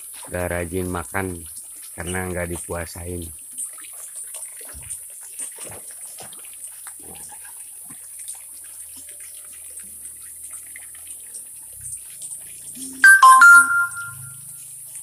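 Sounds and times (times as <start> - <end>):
water splashing into pond: 0.0 - 15.0.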